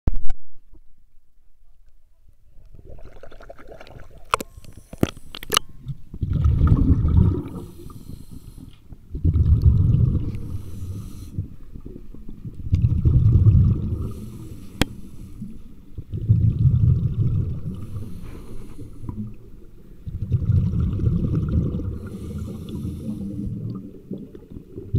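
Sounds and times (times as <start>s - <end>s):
muffled underwater water sloshing: 2.6s - 24.9s.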